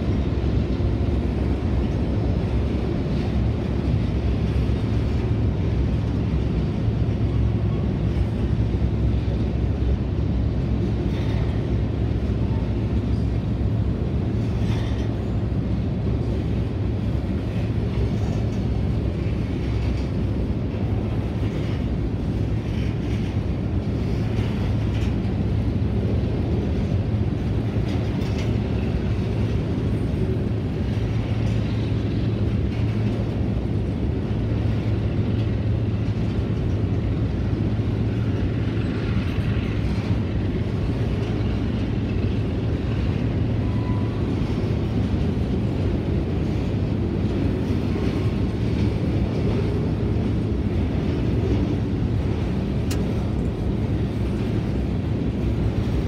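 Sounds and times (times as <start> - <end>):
constant hum: 0.0 - 56.0
steel wheels rumbling on rails: 0.0 - 56.0.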